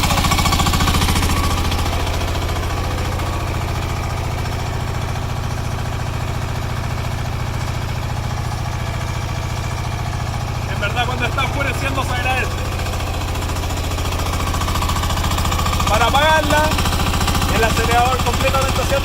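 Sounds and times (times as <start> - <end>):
diesel engine thudding: 0.0 - 19.0.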